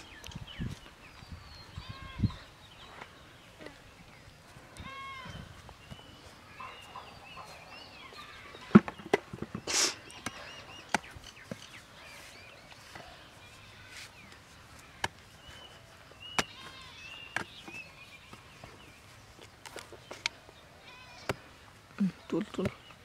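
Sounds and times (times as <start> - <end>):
faint birds calling: 0.0 - 23.0.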